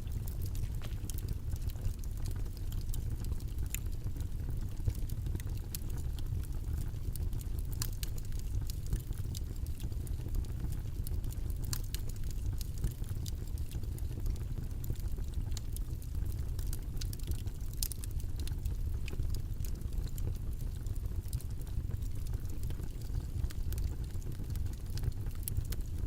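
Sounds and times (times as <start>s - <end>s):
low rumbling background noise: 0.0s - 26.0s
small irregular clicks: 0.0s - 26.0s.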